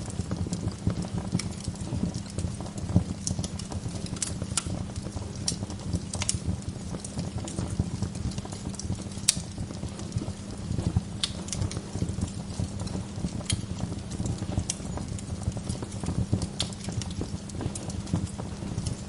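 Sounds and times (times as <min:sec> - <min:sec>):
sharp pops of fire: 0:00.0 - 0:19.0
wood fire crackling: 0:00.0 - 0:19.0.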